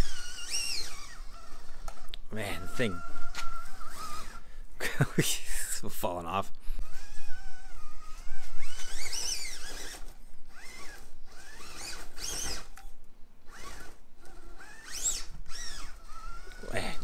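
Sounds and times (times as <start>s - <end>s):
electric motor whining: 0.0s - 4.6s, 6.7s - 17.0s.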